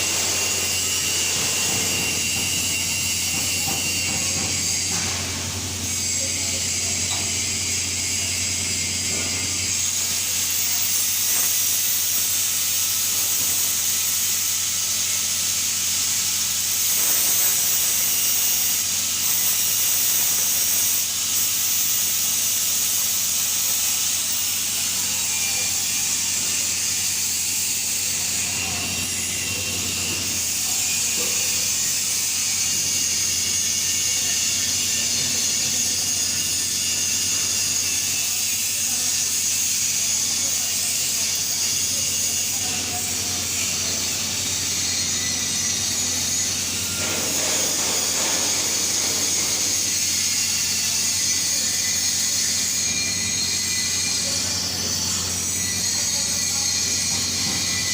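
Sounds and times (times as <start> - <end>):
welding arc hissing: 0.0 - 57.9.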